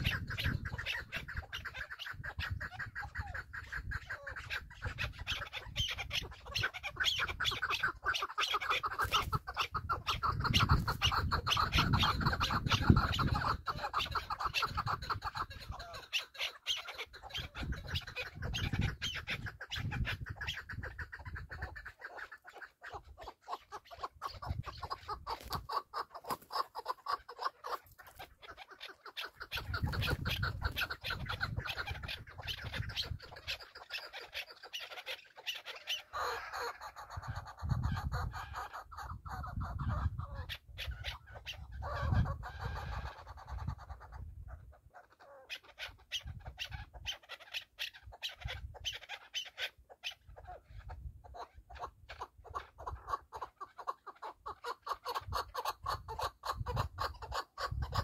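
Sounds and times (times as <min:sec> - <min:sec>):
partridges clucking chatter: 0:00.0 - 0:44.3, 0:45.1 - 0:58.0.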